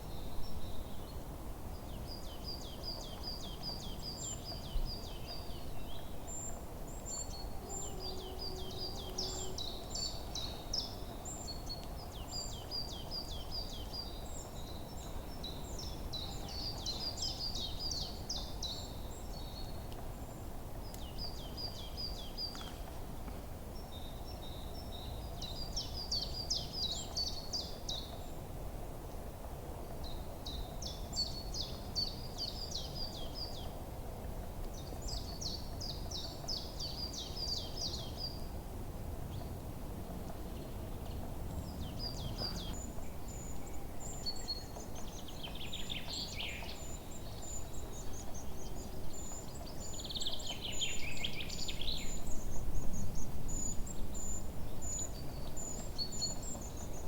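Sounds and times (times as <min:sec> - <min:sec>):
outdoor background hiss: 0:00.0 - 0:57.0
songbirds chirping: 0:00.0 - 0:57.0.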